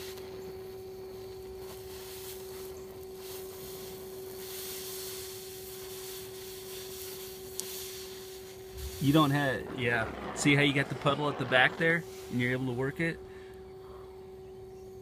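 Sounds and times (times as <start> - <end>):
welding torch flame hissing: 0.0 - 14.2
steady pure tone: 0.0 - 15.0.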